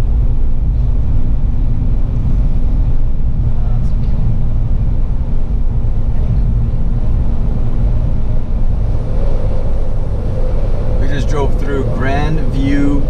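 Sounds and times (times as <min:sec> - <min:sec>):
car engine and tyres cruising: 0:00.0 - 0:13.0.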